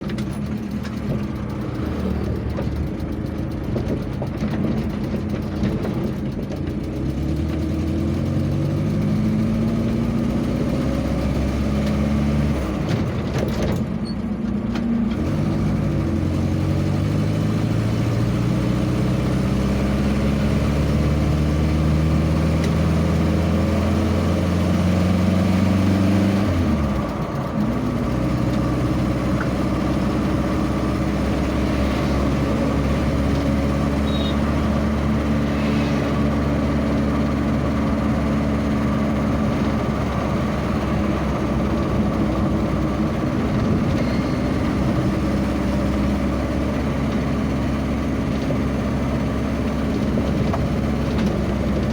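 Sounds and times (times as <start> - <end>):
vehicle engine accelerating: 0.0 - 51.9.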